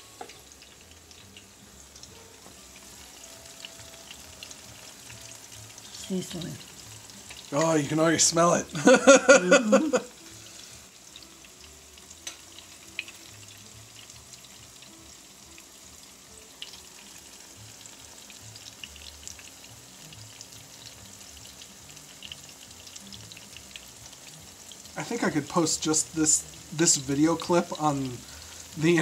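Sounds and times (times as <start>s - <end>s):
plantains sizzling in hot oil: 0.0s - 29.0s.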